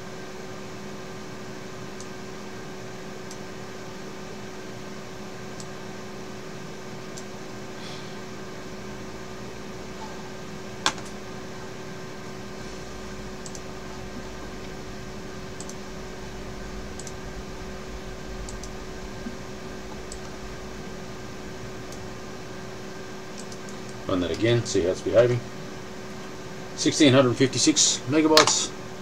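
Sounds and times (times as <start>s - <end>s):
computer fans humming: 0.0s - 29.0s.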